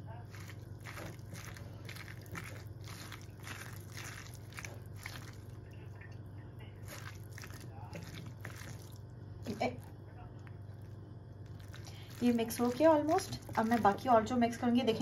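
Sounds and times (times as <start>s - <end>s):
wet squelching of batter: 0.0s - 14.3s.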